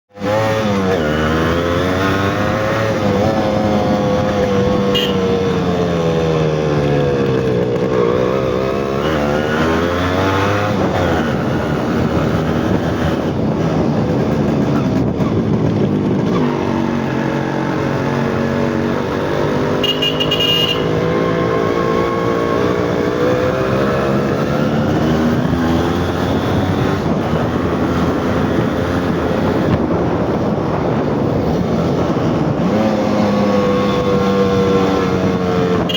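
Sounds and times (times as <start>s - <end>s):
two-stroke motorcycle engine revving: 0.1s - 35.9s.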